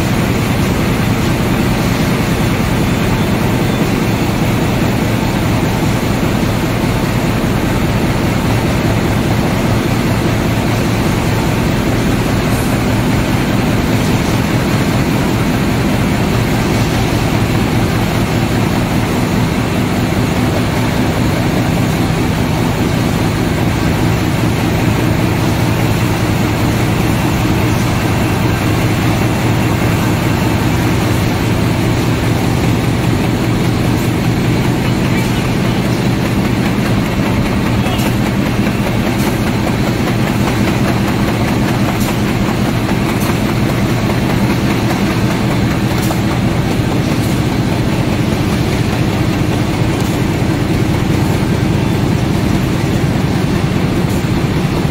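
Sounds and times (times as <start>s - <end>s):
machine drone with low hum: 0.0s - 54.9s.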